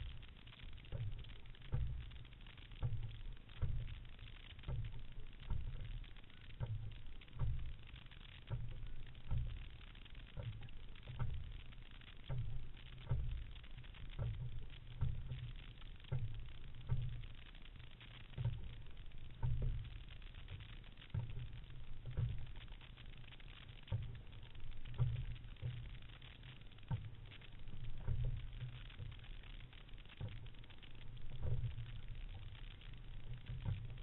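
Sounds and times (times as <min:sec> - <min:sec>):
water washing along hull: 0:00.0 - 0:34.0.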